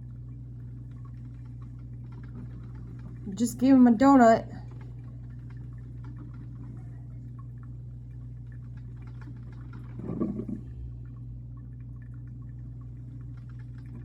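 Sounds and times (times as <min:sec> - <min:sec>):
low hum: 0:00.0 - 0:14.0
muffled rumble: 0:00.0 - 0:14.0.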